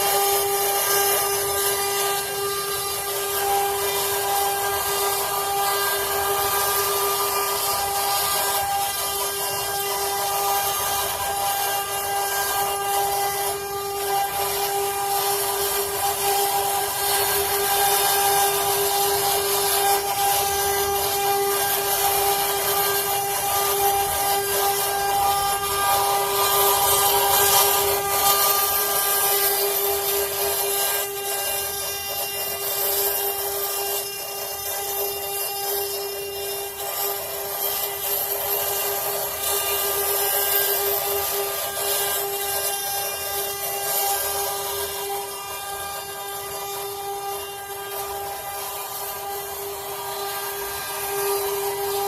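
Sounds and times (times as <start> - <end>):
router bit rasping wood: 0.0 - 52.0
router spindle whining: 0.0 - 52.0.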